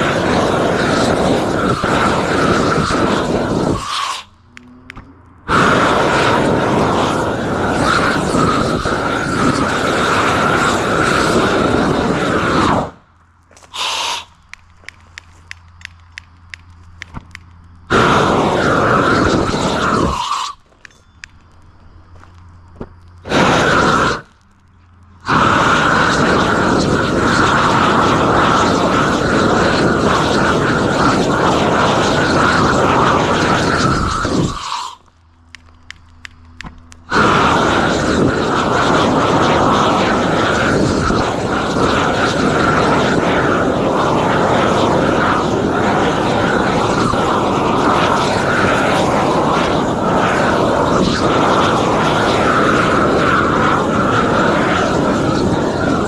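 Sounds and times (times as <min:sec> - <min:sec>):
propane torch roaring: 0:00.0 - 0:56.0.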